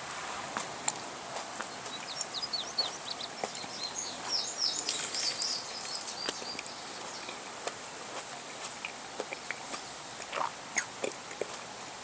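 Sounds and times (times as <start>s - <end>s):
small birds chirping: 0.7s - 11.7s.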